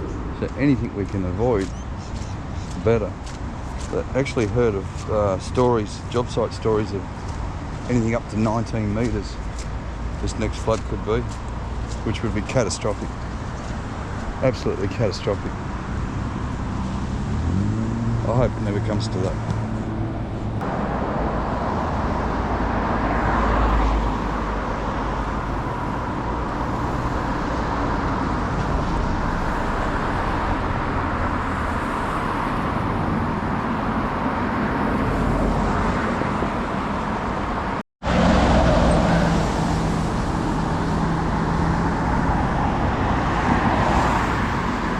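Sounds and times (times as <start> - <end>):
road traffic with cars passing: 0.0 - 44.9.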